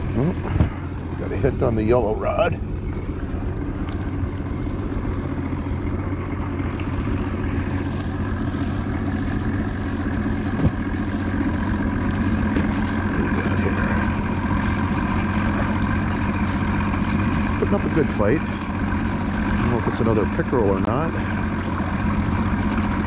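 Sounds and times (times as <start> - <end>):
outboard motor idling: 0.0 - 23.0.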